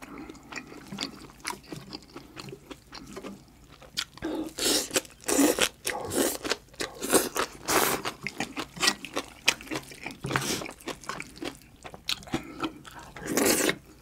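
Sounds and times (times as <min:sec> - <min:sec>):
wet crunchy chewing: 0:00.0 - 0:14.0.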